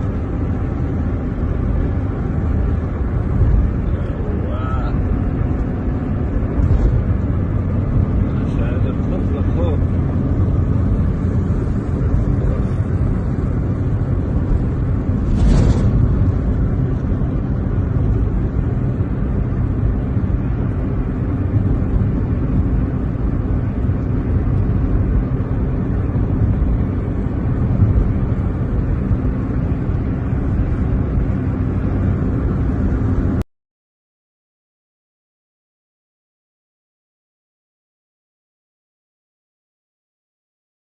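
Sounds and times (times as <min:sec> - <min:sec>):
car engine rumble: 0:00.0 - 0:33.4
road noise: 0:00.0 - 0:33.4.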